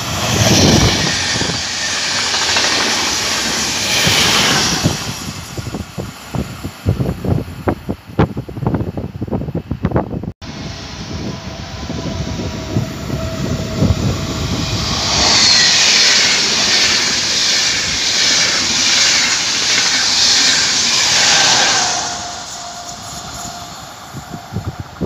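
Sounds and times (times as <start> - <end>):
wind rumble on microphone: 0.0 - 1.9, 3.8 - 25.0
train wheels rushing on rails: 0.0 - 7.2, 10.4 - 25.0.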